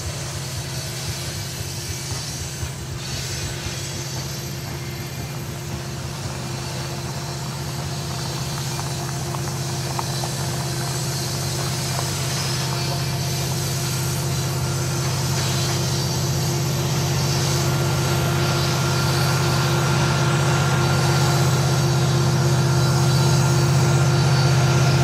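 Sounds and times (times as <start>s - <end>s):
diesel locomotives droning: 0.0s - 25.0s
rolling freight cars: 0.0s - 25.0s
wheels ticking on rail: 0.0s - 25.0s.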